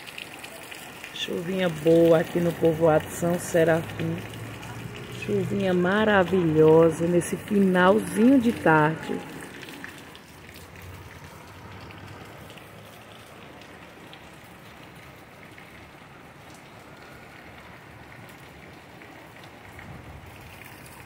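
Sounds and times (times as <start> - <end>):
heavy rain pattering: 0.0 - 21.0.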